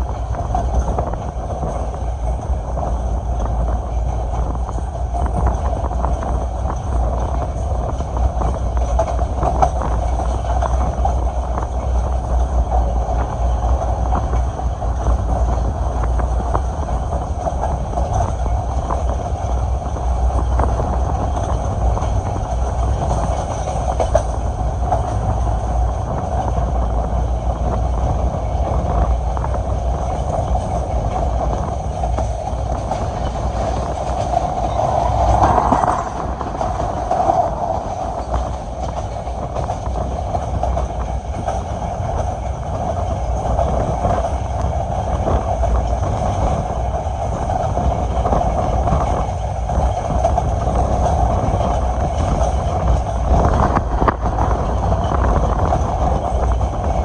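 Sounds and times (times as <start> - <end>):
rapid track clicks: 0.0 - 57.0
train wheels rumbling on rails: 0.0 - 57.0.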